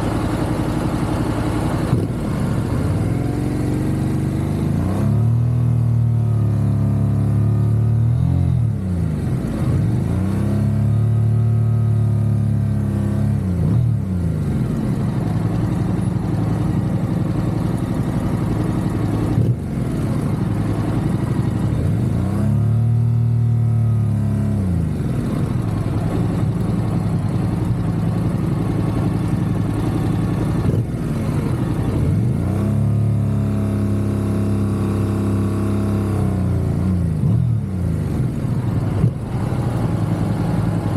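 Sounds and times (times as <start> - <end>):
motorcycle engine revving: 0.0 - 40.9
wind and road noise: 0.0 - 40.9.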